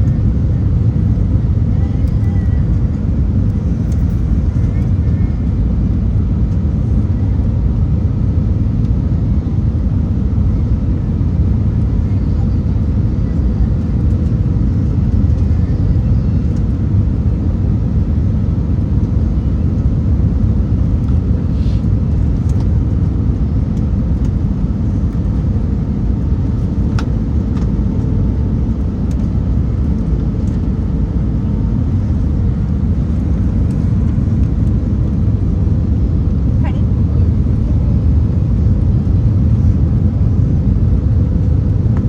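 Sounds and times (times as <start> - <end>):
jet engines and airflow rumble: 0.0 - 42.0.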